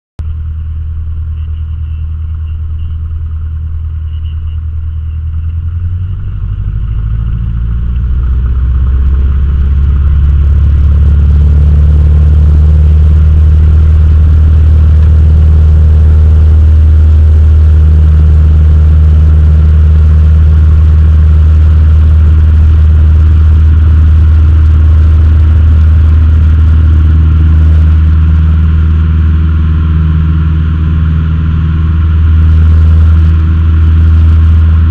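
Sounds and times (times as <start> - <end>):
airplane engine and propeller: 0.2 - 34.9.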